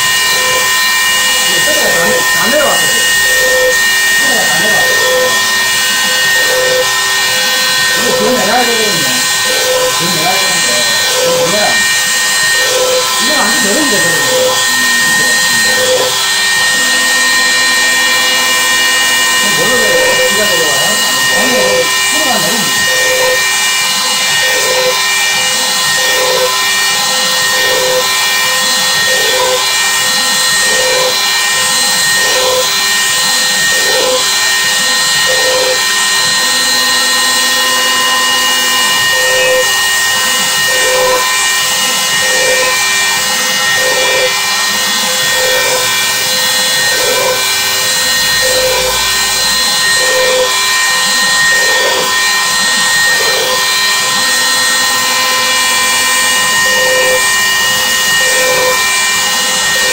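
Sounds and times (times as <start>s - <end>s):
router high whine: 0.0s - 59.9s.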